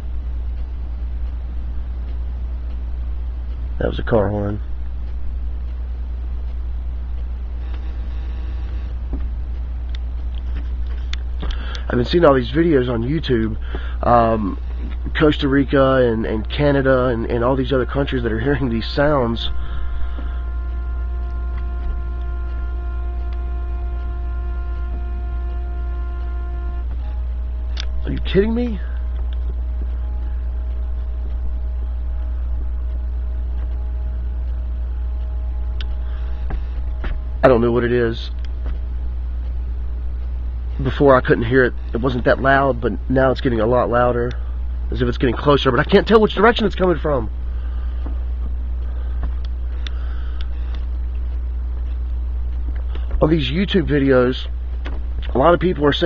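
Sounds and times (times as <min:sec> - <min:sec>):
faint distant pitched tone: 0:00.0 - 0:56.0
faint higher hums: 0:00.0 - 0:56.0
low drone in the sky: 0:00.0 - 0:56.0
low outdoor rumble: 0:00.0 - 0:56.0.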